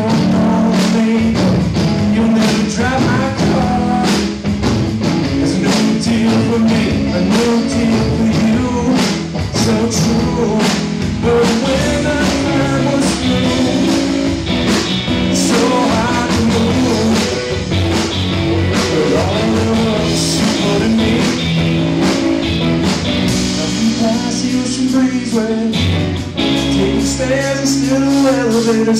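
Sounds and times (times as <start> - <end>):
drum kit beat: 0.0 - 28.9
electric bass: 0.0 - 28.9
electric guitars: 0.0 - 28.9.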